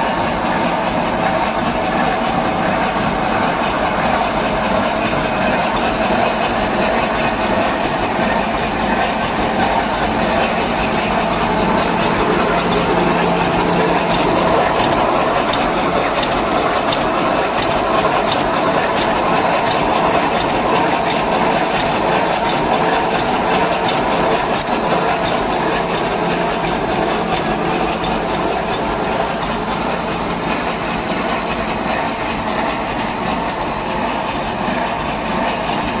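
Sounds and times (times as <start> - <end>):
welding machine clattering: 0.1 - 36.0.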